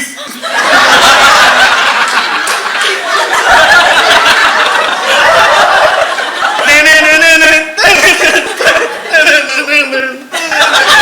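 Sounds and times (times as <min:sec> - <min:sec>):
audience laughing: 0:00.1 - 0:07.1, 0:07.8 - 0:11.0.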